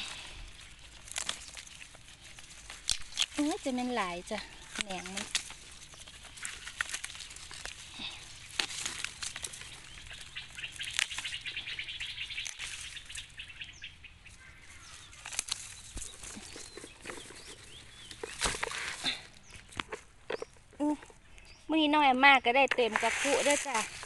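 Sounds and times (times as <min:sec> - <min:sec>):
bamboo leaves rustling and crackling: 0:00.0 - 0:24.0.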